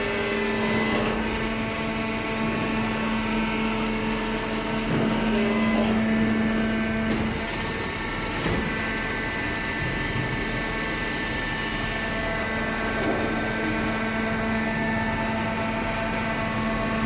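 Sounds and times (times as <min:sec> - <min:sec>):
motor and pump droning: 0:00.0 - 0:17.0.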